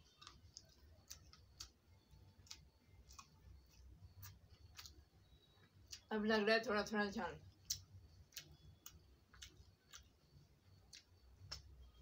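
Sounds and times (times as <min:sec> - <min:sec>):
chewing: 0:00.0 - 0:06.1, 0:07.6 - 0:11.7.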